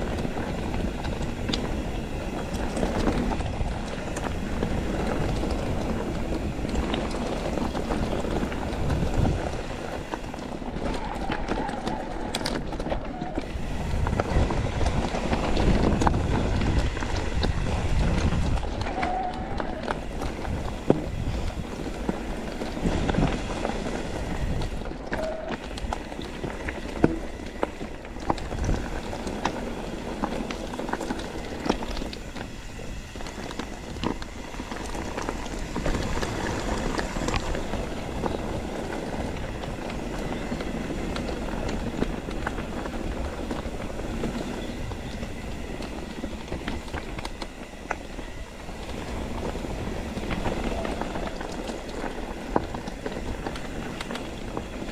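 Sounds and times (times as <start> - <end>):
bike clicks and rattles: 0.0 - 54.9
bike tyres rolling on rough trail: 0.0 - 54.9.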